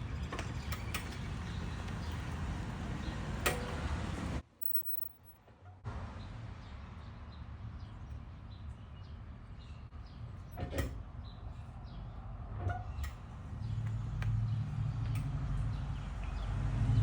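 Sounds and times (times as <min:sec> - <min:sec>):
road noise: 0:00.0 - 0:04.6, 0:05.9 - 0:17.0.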